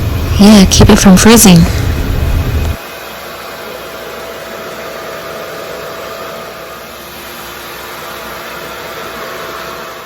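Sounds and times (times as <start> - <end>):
hair dryer running: 1.4 - 10.0.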